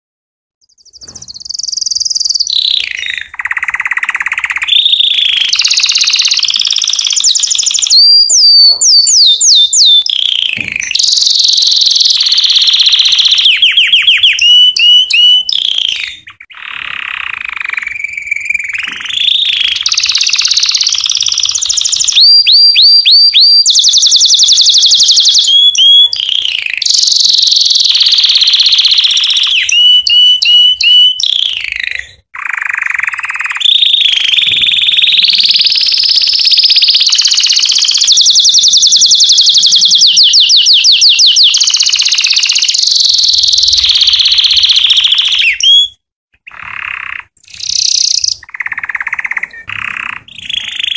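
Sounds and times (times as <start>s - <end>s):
canary singing trills: 0.6s - 50.9s.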